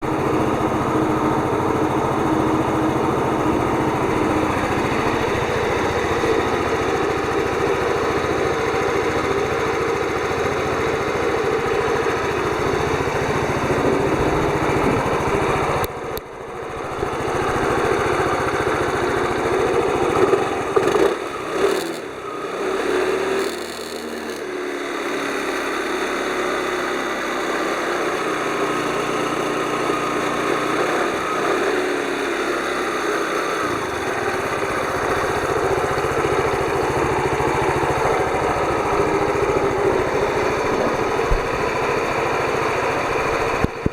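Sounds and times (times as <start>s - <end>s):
scooter engine running: 0.0s - 43.9s.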